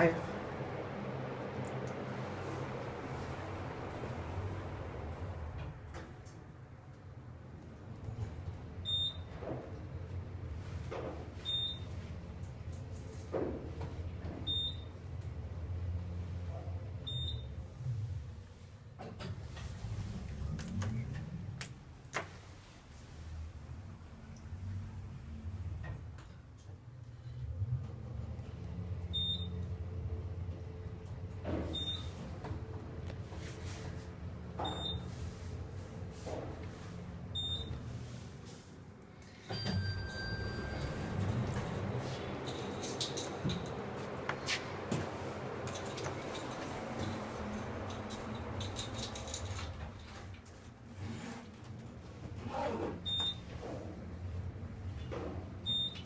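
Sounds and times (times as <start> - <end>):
elevator low hum: 0.0 - 56.0.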